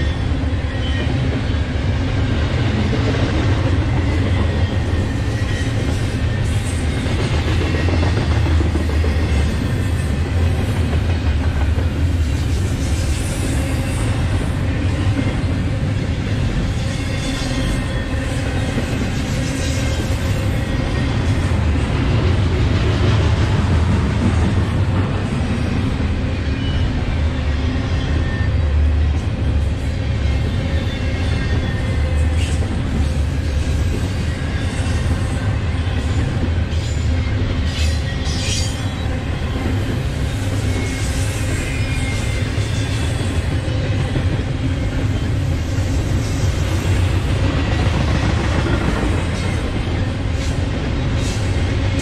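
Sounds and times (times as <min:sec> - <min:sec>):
train wheel squeals: 0:00.0 - 0:22.1, 0:25.2 - 0:52.0
freight train rumbling past: 0:00.0 - 0:52.0.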